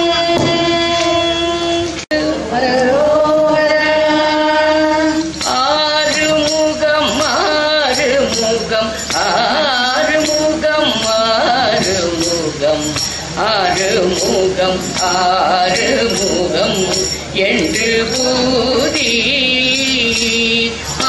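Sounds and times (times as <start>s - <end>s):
women singing through microphones: 0.0s - 21.0s.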